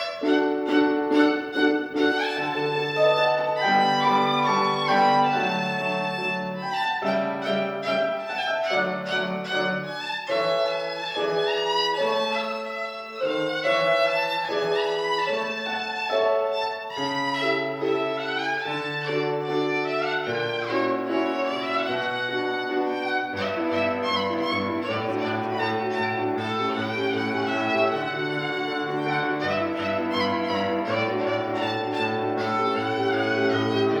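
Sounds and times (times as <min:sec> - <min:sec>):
piano accompaniment: 0:00.0 - 0:34.0
solo violin melody: 0:00.0 - 0:34.0.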